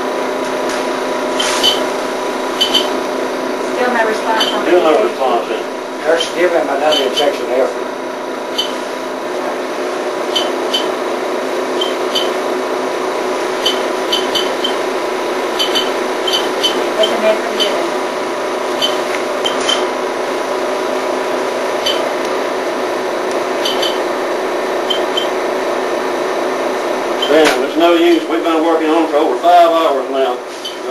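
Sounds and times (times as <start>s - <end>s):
machine hum: 0.0s - 30.9s.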